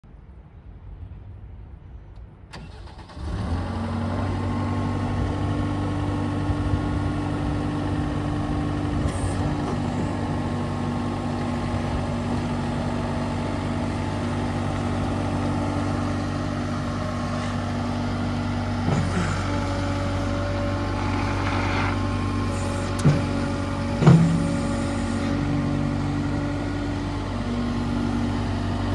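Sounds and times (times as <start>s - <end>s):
diesel engine starting and running: 2.5s - 28.9s.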